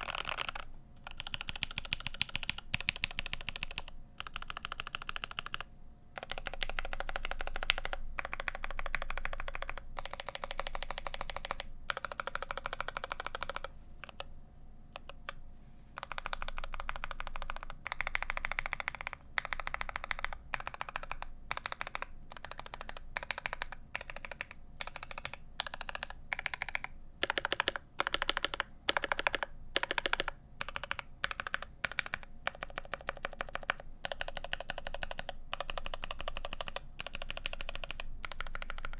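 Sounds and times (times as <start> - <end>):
typing on mechanical keyboard: 0.0 - 14.3, 14.9 - 15.4, 16.0 - 38.9.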